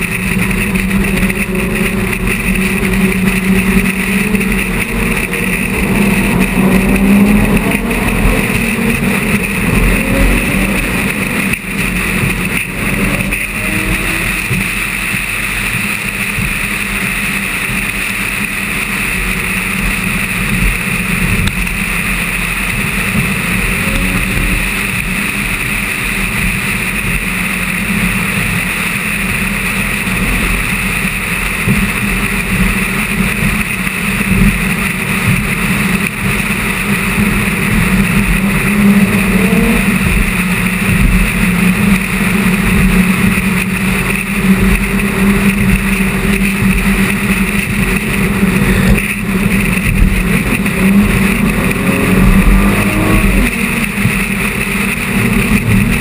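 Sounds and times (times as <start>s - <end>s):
car engine droning: 0.0s - 56.0s
wind and road noise: 0.0s - 56.0s.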